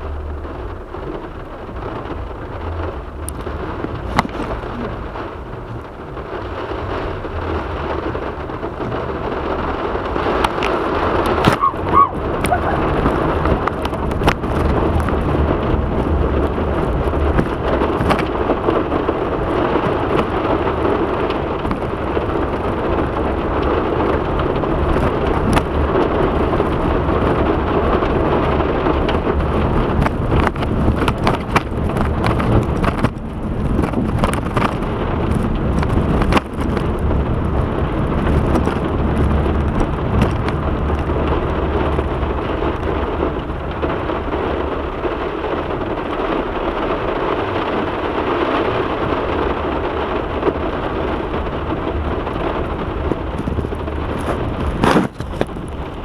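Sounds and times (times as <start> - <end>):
heavy rain falling: 0.0 - 56.0
sharp taps of raindrops: 0.0 - 56.0.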